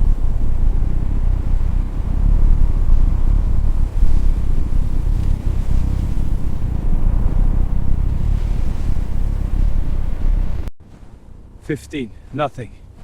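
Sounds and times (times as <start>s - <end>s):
blizzard wind rumbling: 0.0s - 13.0s.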